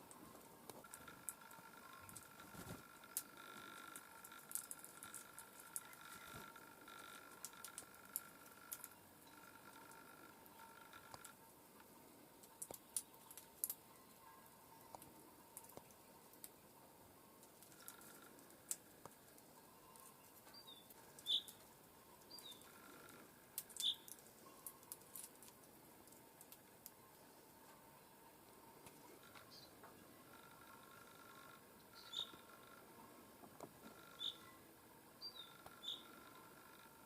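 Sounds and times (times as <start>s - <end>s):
faint ticks and clicks: 0.0s - 37.0s.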